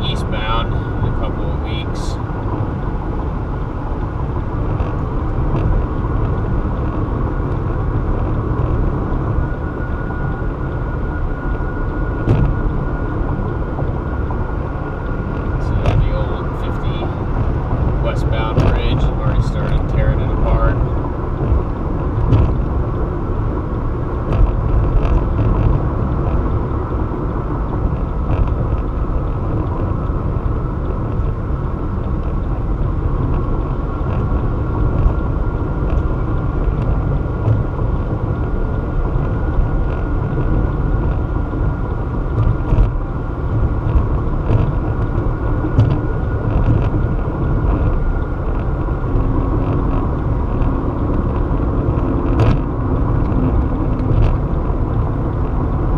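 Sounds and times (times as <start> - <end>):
car road noise from inside: 0.0 - 55.9.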